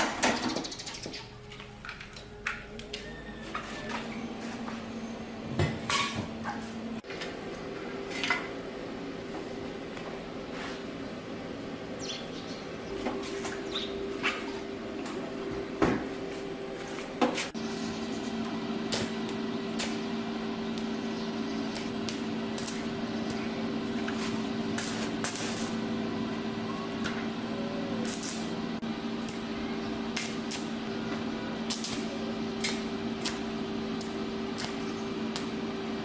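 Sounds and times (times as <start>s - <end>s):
steady hum: 1.2s - 36.0s.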